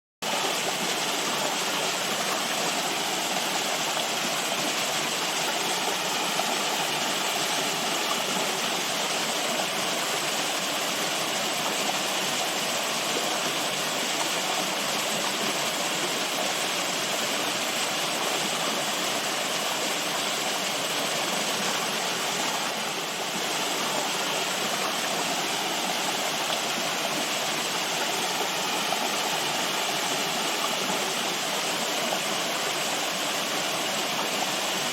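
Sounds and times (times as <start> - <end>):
running water rushing: 0.2 - 34.9.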